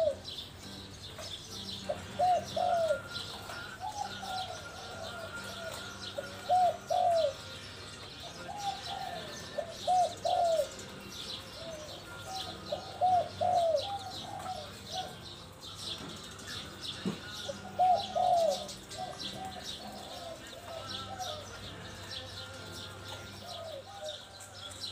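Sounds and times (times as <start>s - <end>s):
dove cooing: 0.0s - 22.1s, 22.8s - 24.9s
small birds chirping: 0.0s - 24.9s.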